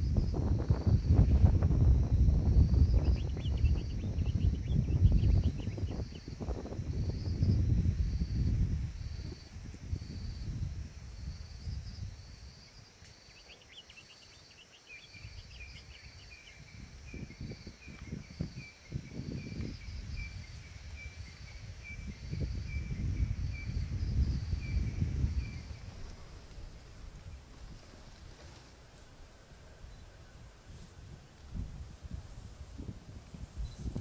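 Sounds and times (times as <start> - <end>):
insect chirping in pulses: 0.0 - 27.8.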